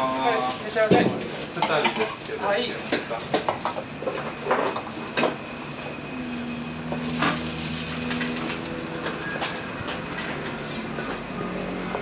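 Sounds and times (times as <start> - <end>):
stove low hum: 0.0 - 12.0.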